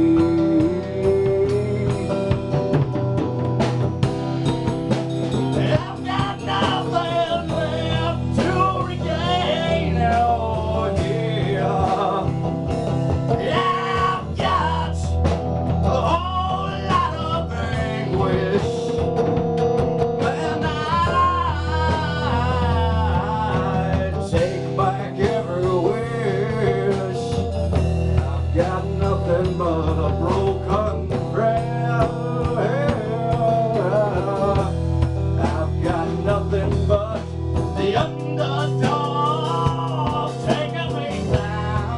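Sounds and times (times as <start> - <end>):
man singing into microphone: 0.0 - 3.0, 5.5 - 12.4, 13.3 - 19.1, 20.2 - 41.9
electric guitar: 0.0 - 41.9.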